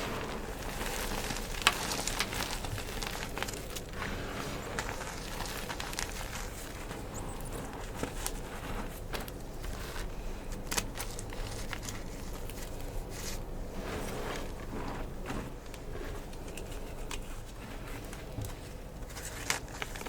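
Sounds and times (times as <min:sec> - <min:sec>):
chalk being crushed: 0:00.0 - 0:20.0.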